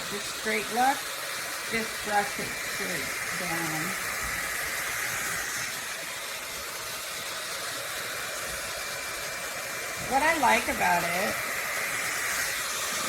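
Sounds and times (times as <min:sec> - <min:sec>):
hot-air dryer brush running: 0:00.0 - 0:13.0.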